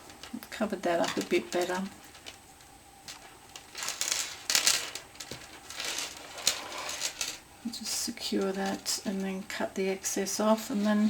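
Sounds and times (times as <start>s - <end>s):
yarn rustling with crochet hook: 0.0s - 9.5s, 10.4s - 11.0s.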